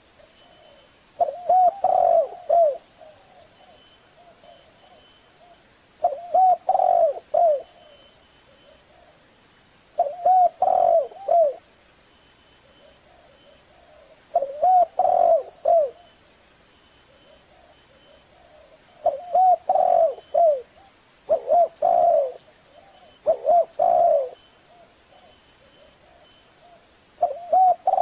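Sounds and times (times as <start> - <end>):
dove cooing: 0.0 - 9.2, 10.0 - 11.6, 12.6 - 16.2, 17.1 - 28.0
faint high chirping: 0.0 - 28.0.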